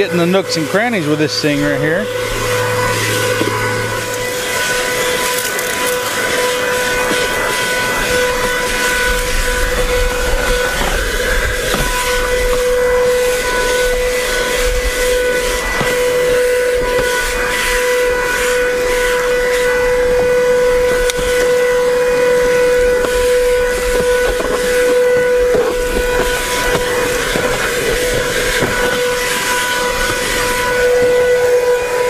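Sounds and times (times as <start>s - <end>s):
airflow hissing: 0.0s - 32.0s
handheld vacuum motor whine: 0.0s - 32.0s.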